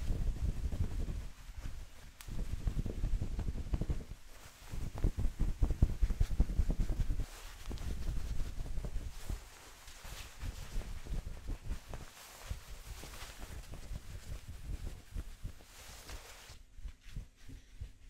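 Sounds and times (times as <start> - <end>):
towel rubbing on microphone: 0.0 - 18.0.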